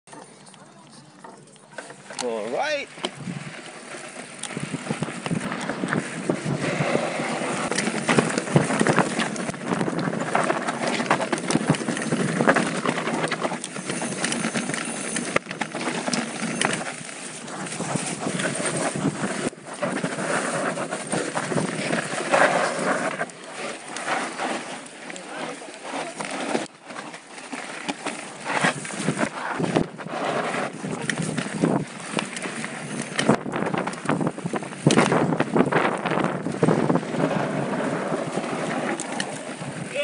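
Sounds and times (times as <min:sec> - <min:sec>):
mountain bike rattling: 0:00.1 - 0:40.0.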